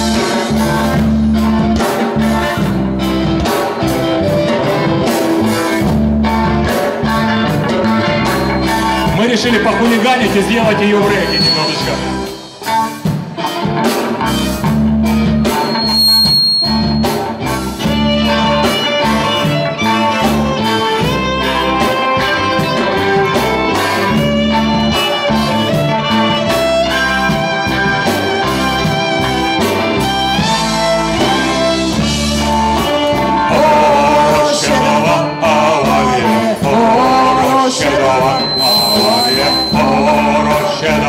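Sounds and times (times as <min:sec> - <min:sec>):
live reggae band playing: 0:00.0 - 0:41.0.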